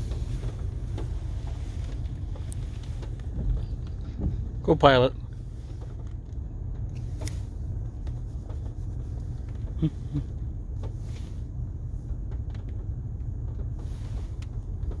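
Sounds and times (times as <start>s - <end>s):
vehicle rumbling over gravel: 0.0s - 15.0s.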